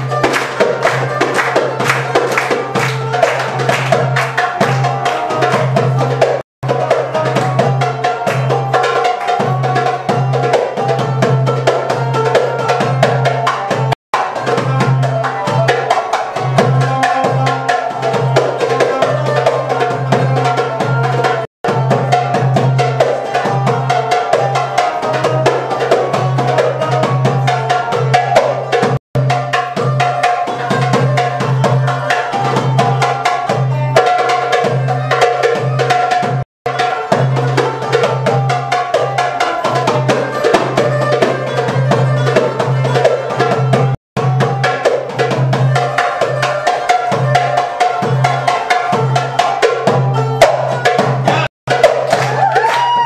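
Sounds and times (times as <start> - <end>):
plucked zither melody: 0.0 - 52.4.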